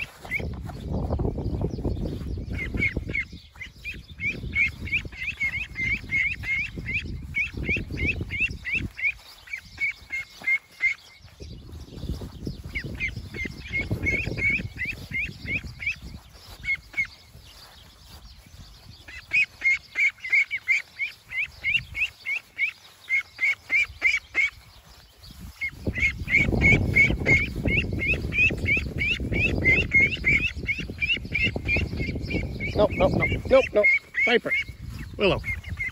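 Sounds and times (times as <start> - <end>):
ducklings peeping: 0.0 - 35.9.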